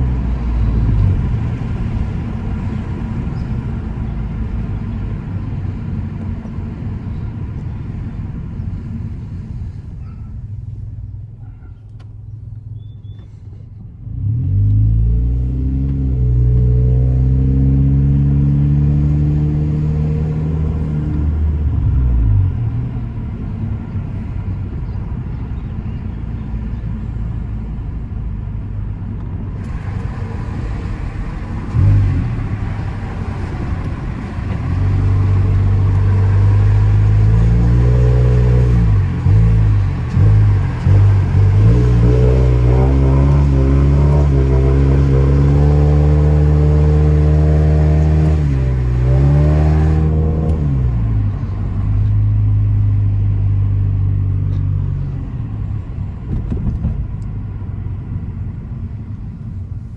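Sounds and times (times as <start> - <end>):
car engine accelerating hard: 0.0 - 9.6, 14.0 - 26.0, 29.5 - 58.8.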